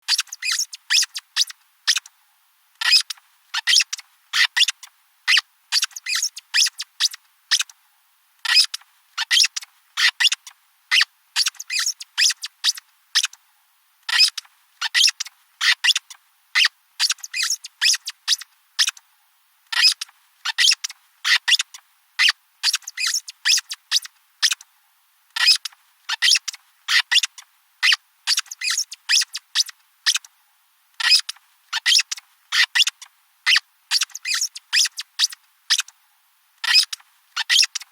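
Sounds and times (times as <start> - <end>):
rubber squeaky toy squeaking: 0.1 - 2.1, 2.8 - 7.7, 8.4 - 13.4, 14.1 - 19.0, 19.7 - 24.6, 25.4 - 30.3, 31.0 - 35.9, 36.6 - 37.8.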